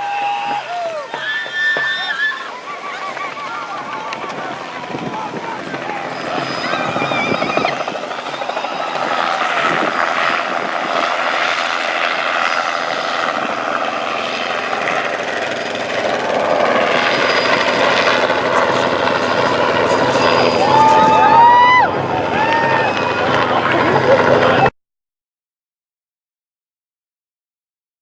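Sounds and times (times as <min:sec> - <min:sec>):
helicopter flying: 0:00.0 - 0:24.7.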